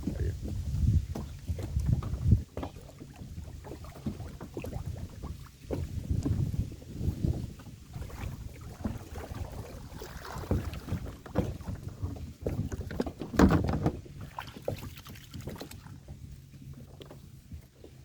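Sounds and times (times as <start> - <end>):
water splashing against hull: 0.0 - 18.0
wind rumbling on microphone: 0.0 - 18.0.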